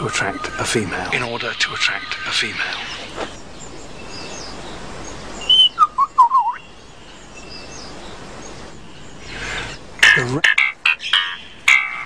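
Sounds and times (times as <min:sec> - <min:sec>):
bird chirping and warbling: 0:00.0 - 0:12.0
steady background hiss: 0:00.0 - 0:12.0.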